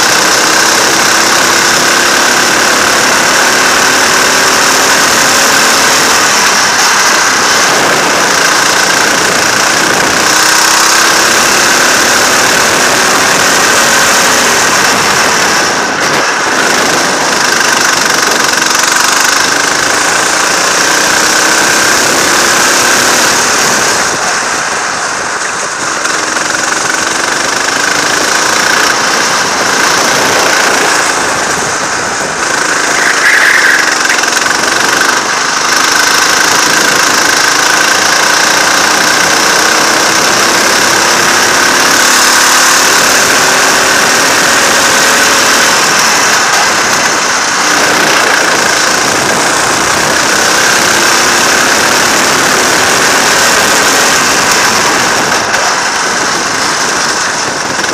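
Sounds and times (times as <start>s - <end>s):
go-kart engine revving: 0.0s - 57.9s
wind rushing on microphone: 0.0s - 57.9s.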